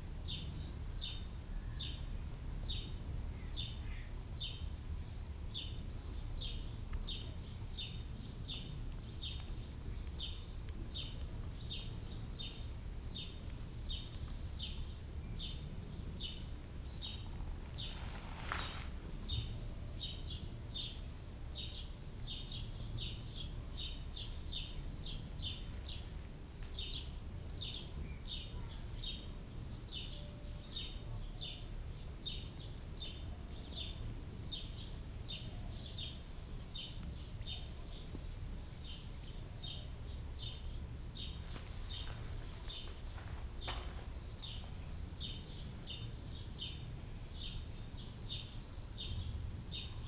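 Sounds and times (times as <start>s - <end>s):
low background rumble: 0.0s - 50.0s
bird chirping: 0.2s - 50.0s.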